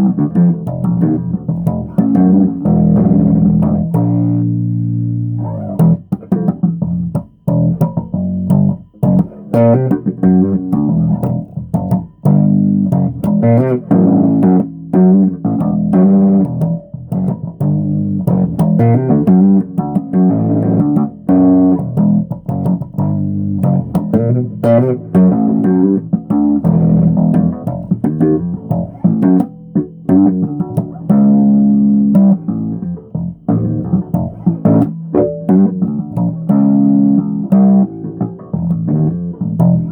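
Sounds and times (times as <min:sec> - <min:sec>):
bass guitar plucked notes: 0:00.0 - 0:39.9.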